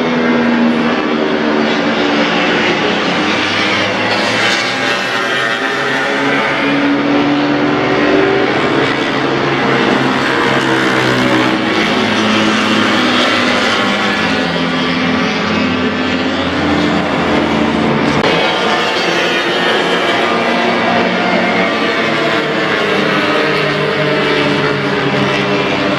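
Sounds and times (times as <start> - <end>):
racing motorcycle engines revving: 0.0 - 25.9.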